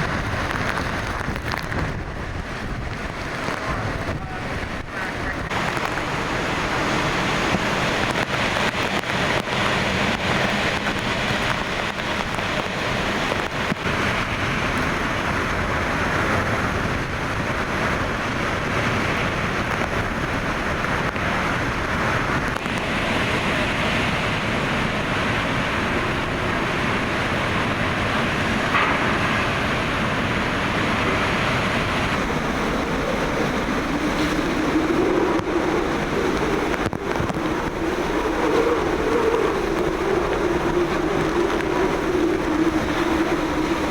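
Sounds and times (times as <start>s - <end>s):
hurricane winds roaring: 0.0s - 43.9s.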